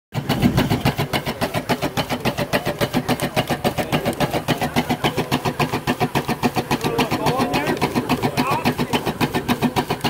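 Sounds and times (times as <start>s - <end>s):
steam engine exhaust chuffs: 0.1s - 10.0s.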